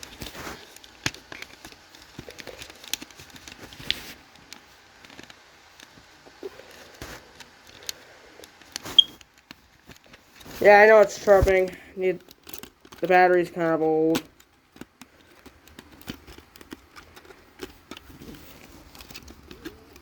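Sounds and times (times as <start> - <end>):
plastic smoke alarm being handled: 0.0 - 20.0.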